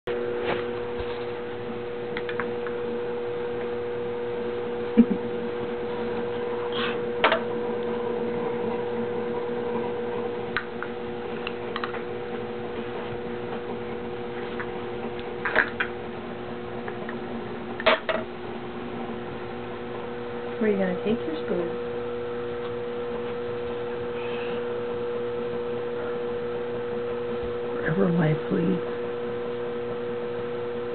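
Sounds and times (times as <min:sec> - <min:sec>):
electrical hum: 0:00.1 - 0:30.9.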